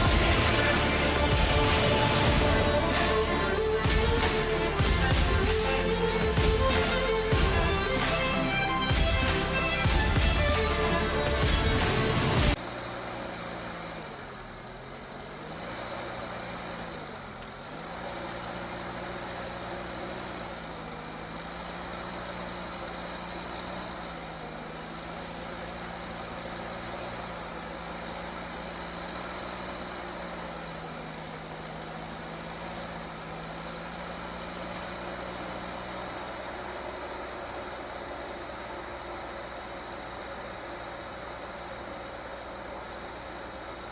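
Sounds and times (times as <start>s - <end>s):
heavy vehicle engine running: 0.0s - 43.9s.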